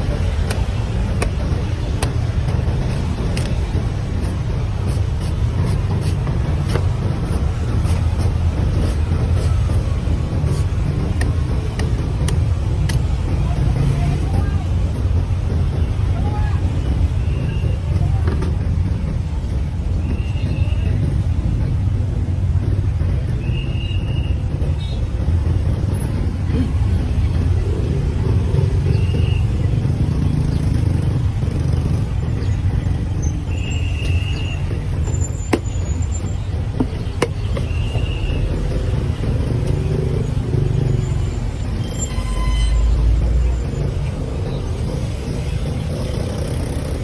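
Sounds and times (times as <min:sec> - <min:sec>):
low traffic rumble: 0:00.0 - 0:47.0.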